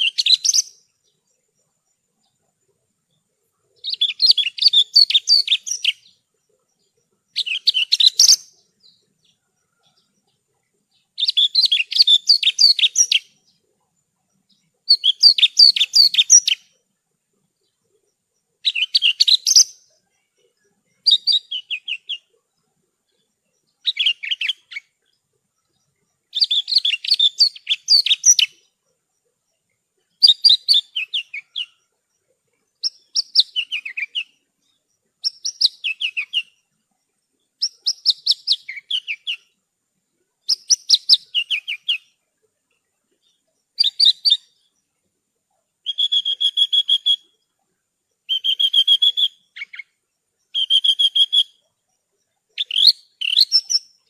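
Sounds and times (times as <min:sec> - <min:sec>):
bush lark singing: 0:00.0 - 0:39.6, 0:40.4 - 0:42.2, 0:43.1 - 0:44.9, 0:45.8 - 0:47.5, 0:48.1 - 0:54.0.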